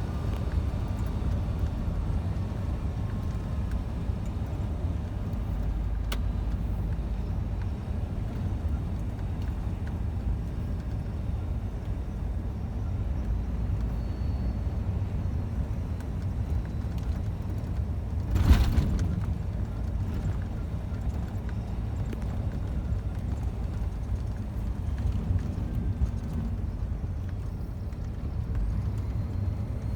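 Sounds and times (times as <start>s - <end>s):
truck engine rumbling: 0.0s - 29.9s.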